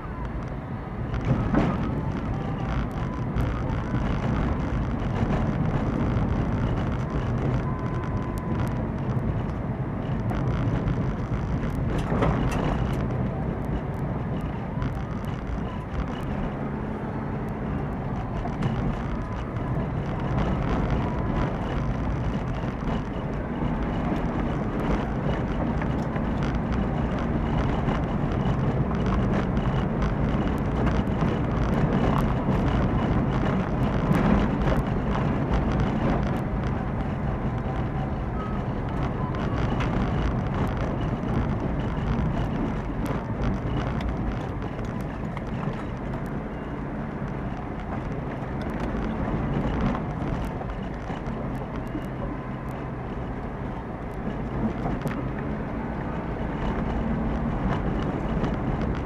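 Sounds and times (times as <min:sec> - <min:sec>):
engine and tyre rumble: 0:00.0 - 0:59.0.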